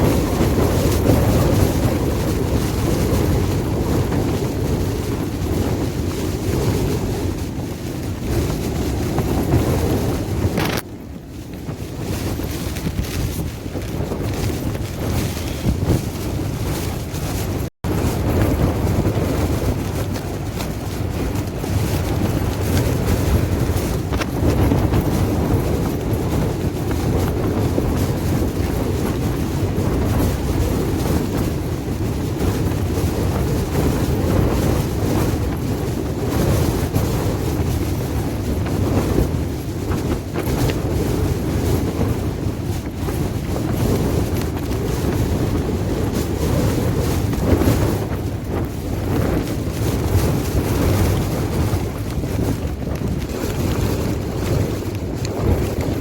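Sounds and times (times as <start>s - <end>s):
storm wind gusting: 0.0s - 56.0s.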